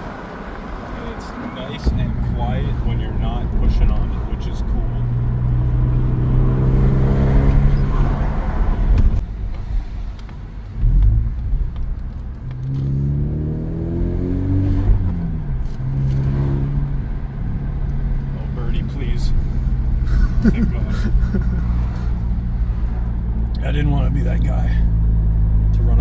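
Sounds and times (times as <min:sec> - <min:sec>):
car engine accelerating: 0:00.0 - 0:09.3, 0:10.1 - 0:26.0.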